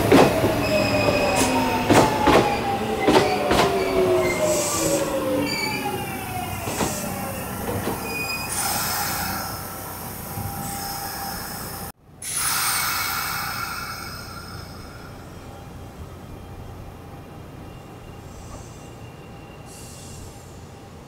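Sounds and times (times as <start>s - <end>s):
train rumble: 0.0s - 21.0s
train wheels squealing: 0.4s - 21.0s.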